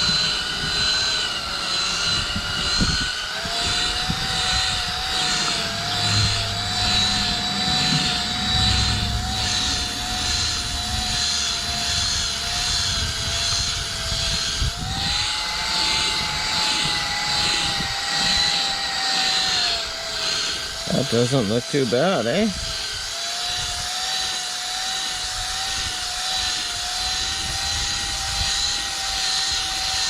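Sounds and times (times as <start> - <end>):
power drill buffing whine: 0.0 - 30.0.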